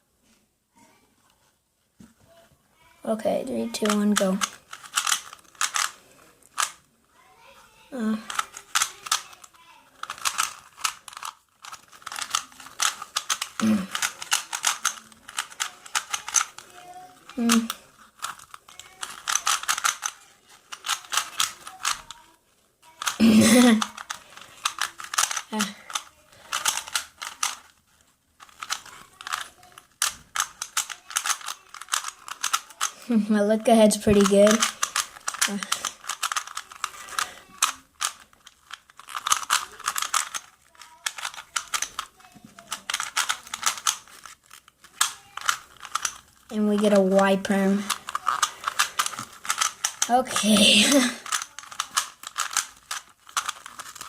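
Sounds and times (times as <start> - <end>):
puzzle cube plastic clicking: 3.7 - 6.8, 8.1 - 22.3, 22.9 - 54.0.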